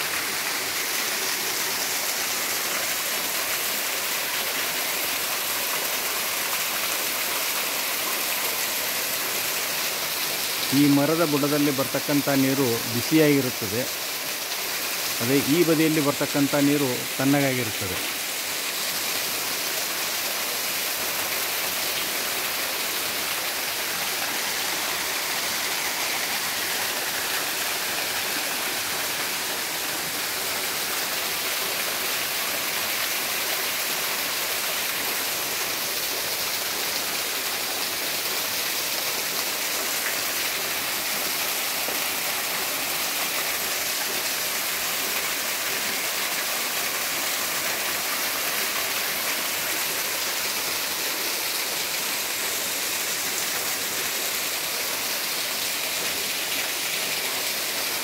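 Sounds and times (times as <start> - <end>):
small waterfall splashing over rocks: 0.0 - 58.0.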